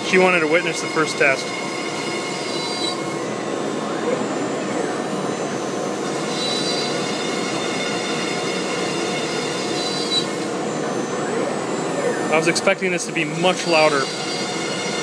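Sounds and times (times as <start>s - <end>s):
router spindle cutting wood: 0.0s - 15.0s
thin high whine: 0.1s - 15.0s.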